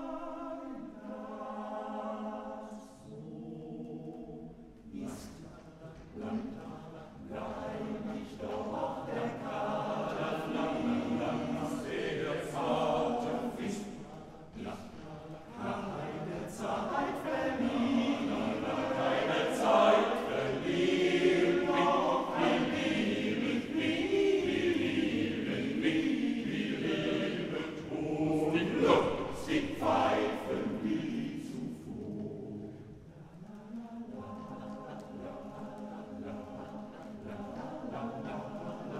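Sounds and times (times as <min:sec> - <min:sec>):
male voice choir singing: 0:00.0 - 0:38.9.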